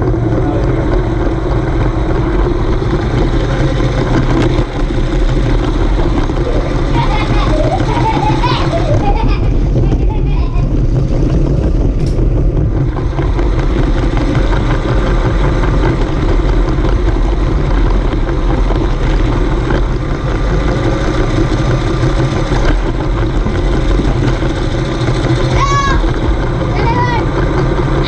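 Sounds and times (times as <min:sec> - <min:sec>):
toy train motor whirring on track: 0:00.3 - 0:28.0.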